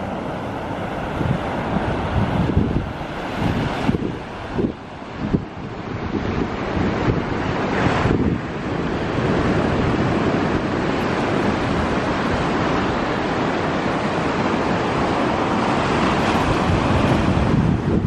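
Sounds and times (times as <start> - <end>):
waves breaking on sandy beach: 0.0 - 18.0.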